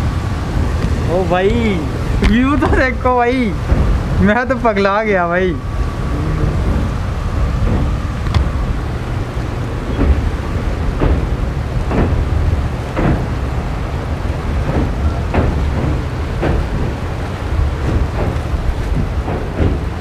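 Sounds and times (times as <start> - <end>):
train rumbling over a bridge: 0.0 - 20.0
wheels clacking over rail joints: 0.0 - 20.0
wind buffeting microphone: 0.0 - 20.0.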